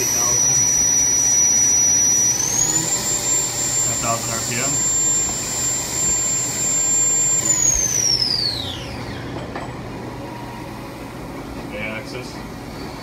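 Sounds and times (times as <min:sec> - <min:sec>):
machine spindle high whine: 0:00.0 - 0:13.0.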